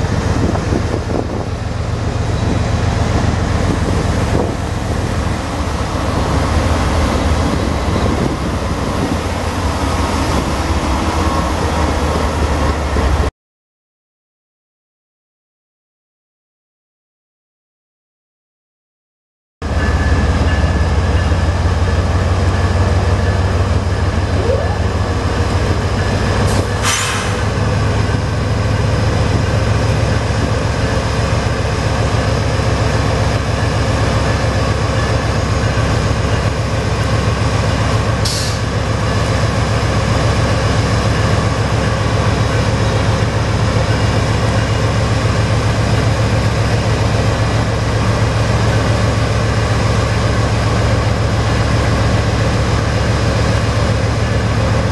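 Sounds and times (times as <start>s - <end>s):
diesel locomotive engines rumbling: 0.0s - 13.3s, 19.6s - 54.9s.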